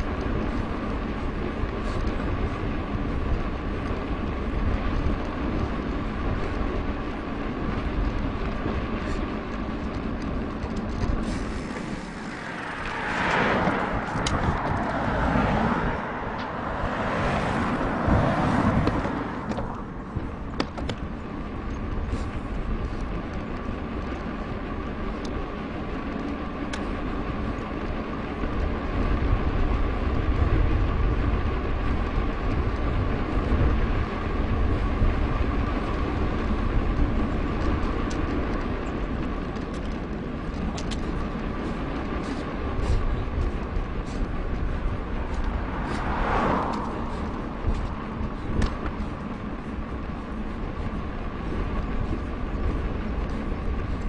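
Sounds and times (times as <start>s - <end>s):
bike tyres rolling: 0.0s - 54.0s
wind rushing over microphone: 0.0s - 54.0s.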